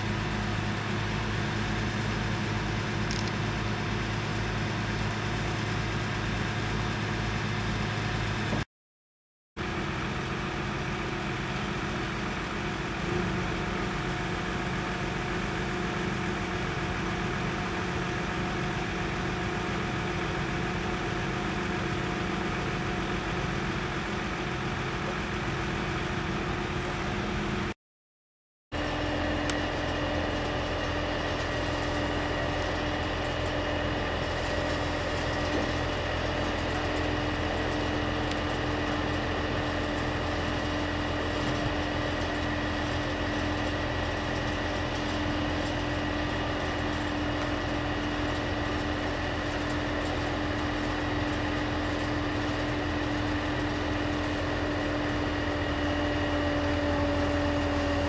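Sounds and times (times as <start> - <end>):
engine drone with whine: 0.0 - 8.7, 9.6 - 27.8, 28.8 - 58.0.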